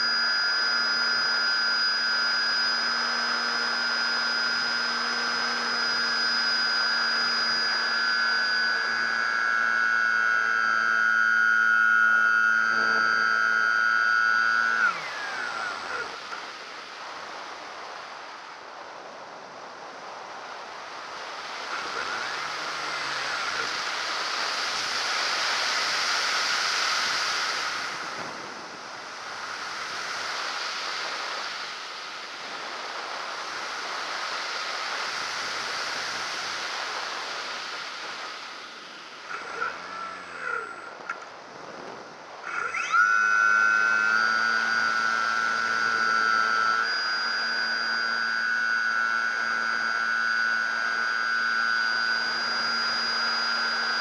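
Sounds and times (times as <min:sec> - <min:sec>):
model aircraft motor whining: 0:00.0 - 0:18.1, 0:20.5 - 0:54.0.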